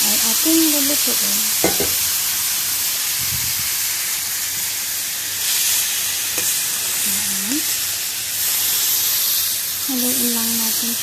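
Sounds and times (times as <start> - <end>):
chicken and onions sizzling in pan: 0.0 - 11.0.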